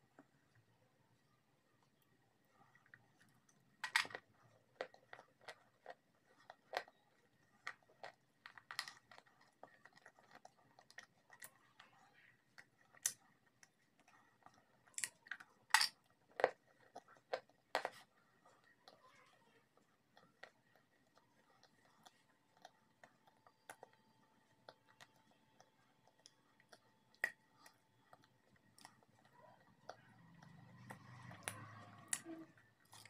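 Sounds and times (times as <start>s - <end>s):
crunching of brittle sticks chewed: 2.5s - 19.0s, 19.8s - 33.0s.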